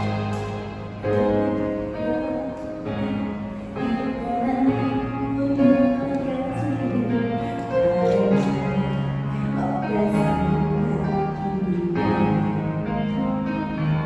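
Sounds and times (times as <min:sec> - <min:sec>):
woman singing pop ballad: 0:00.0 - 0:13.3
piano and guitar accompaniment: 0:00.0 - 0:14.0.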